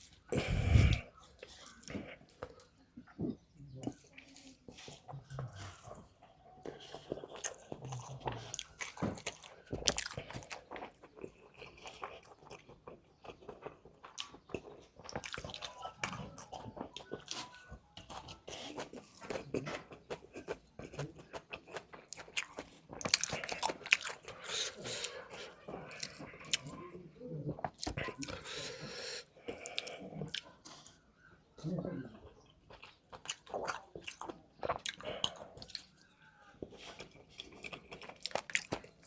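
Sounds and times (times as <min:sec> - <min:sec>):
crunching and chewing food: 0:00.0 - 0:39.0.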